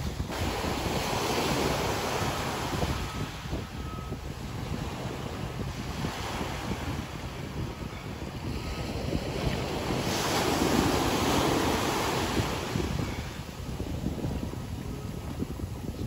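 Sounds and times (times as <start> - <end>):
small waves washing on sand: 0.0 - 3.7, 4.3 - 16.0
wind buffeting microphone: 0.0 - 16.0.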